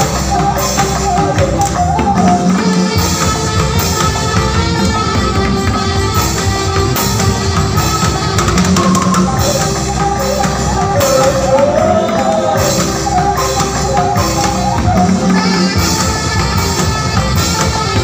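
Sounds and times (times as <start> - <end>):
band music: 0.0 - 18.0
bending lead melody: 0.0 - 18.0
drum kit beat: 0.0 - 18.0.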